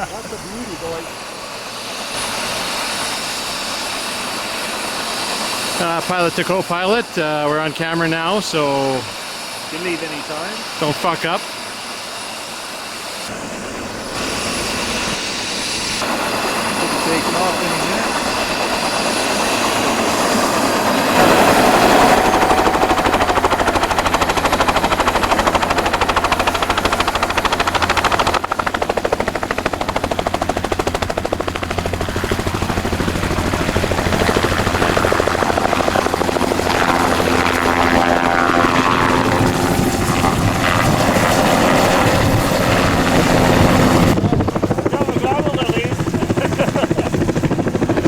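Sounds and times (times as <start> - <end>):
helicopter rotor chopping: 0.0 - 48.0.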